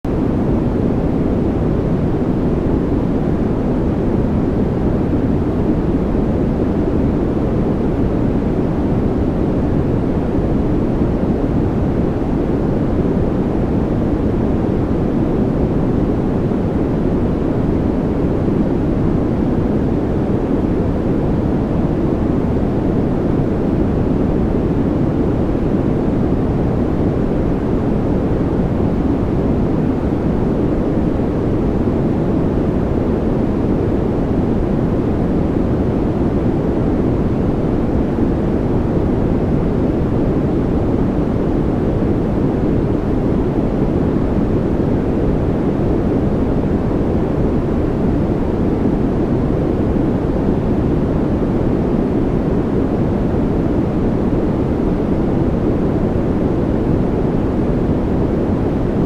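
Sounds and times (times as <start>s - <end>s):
steady white noise: 0.0s - 59.0s.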